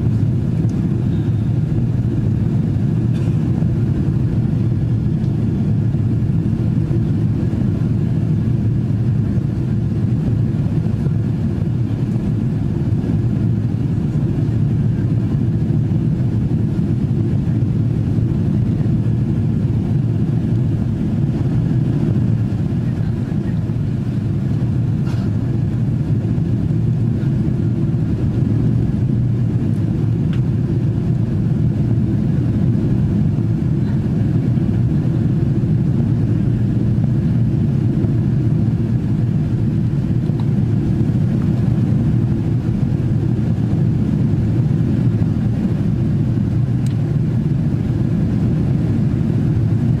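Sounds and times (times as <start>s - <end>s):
airplane cabin engine noise: 0.0s - 50.0s.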